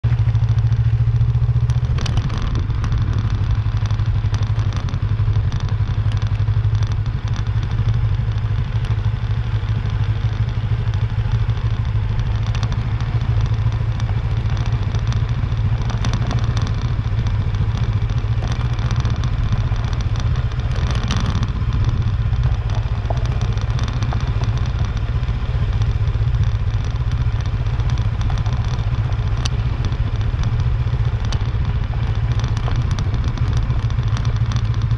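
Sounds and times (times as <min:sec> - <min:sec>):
gravel crackling under tyres: 0:00.0 - 0:34.9
motorcycle engine running: 0:00.0 - 0:34.9.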